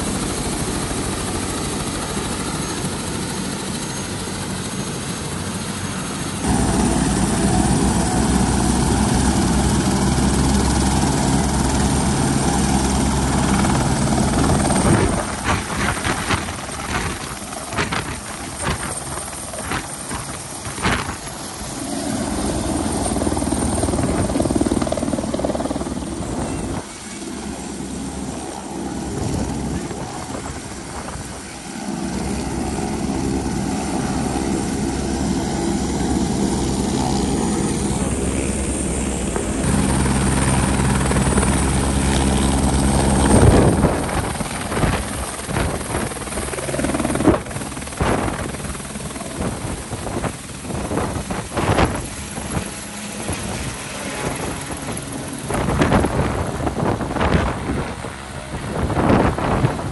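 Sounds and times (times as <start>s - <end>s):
helicopter rotor beating: 0.0s - 59.9s
wind buffeting microphone: 6.4s - 27.0s, 27.7s - 59.9s.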